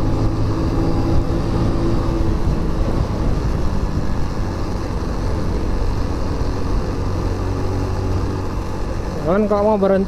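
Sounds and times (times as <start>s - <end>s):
wind noise: 0.0s - 9.2s
motorcycle engine cruising: 0.0s - 10.0s.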